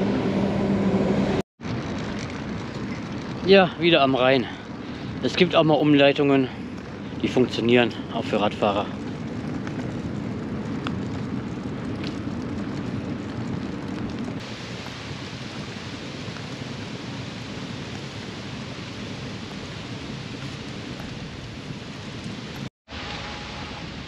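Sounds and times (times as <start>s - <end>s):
bicycle tyres rolling: 1.6s - 23.2s.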